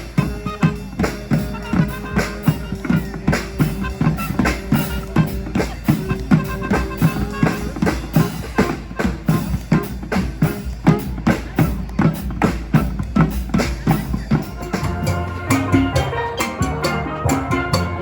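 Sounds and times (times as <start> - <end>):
bass drum and snare beat: 0.0 - 18.0
held instrument notes: 0.0 - 18.0.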